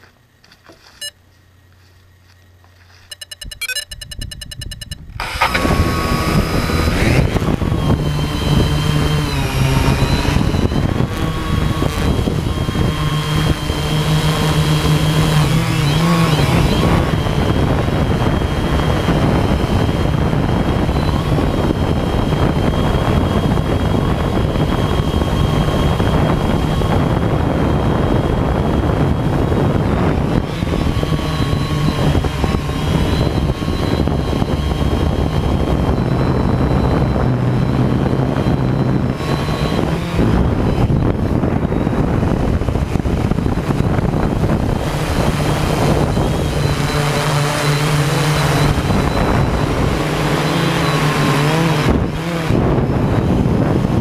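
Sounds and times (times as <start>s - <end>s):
drone propellers buzzing: 2.2s - 54.0s.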